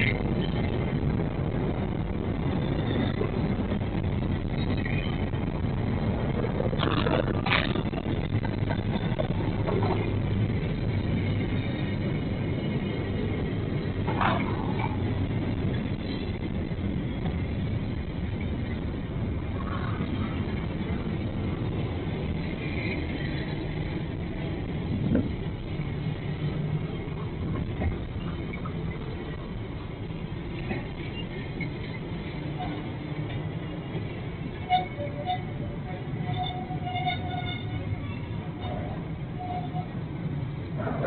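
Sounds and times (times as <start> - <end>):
vehicle engine rumble: 0.0 - 41.0.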